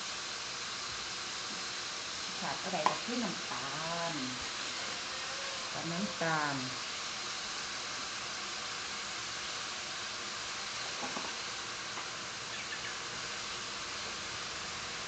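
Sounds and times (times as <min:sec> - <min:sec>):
meat sizzling in a wok: 0:00.0 - 0:15.0.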